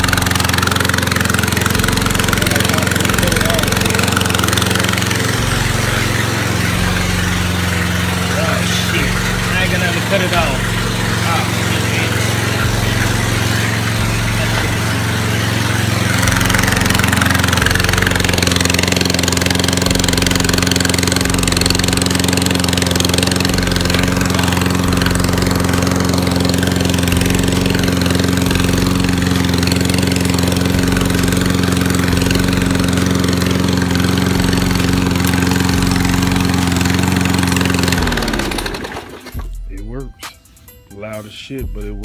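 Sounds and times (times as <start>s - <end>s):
lawn mower engine running: 0.0s - 39.8s.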